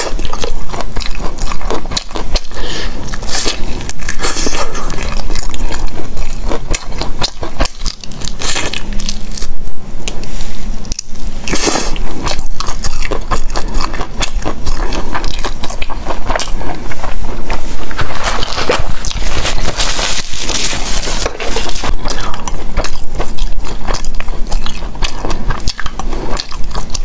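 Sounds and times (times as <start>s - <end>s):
person chewing crunchy snack: 0.0s - 27.0s.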